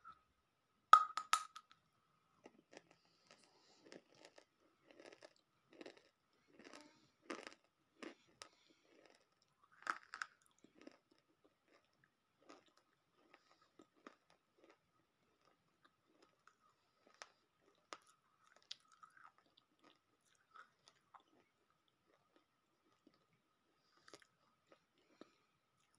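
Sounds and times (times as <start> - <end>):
person crunching and chewing: 2.4 - 23.3.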